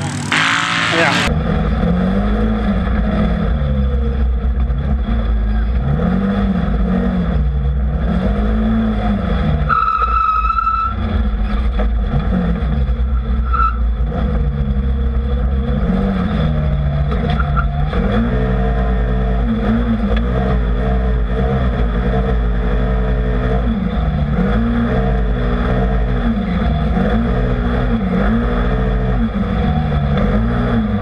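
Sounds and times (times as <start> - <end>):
rough chassis rumble: 0.0 - 9.7, 10.8 - 31.0
utv engine revving: 0.0 - 9.9, 11.0 - 31.0.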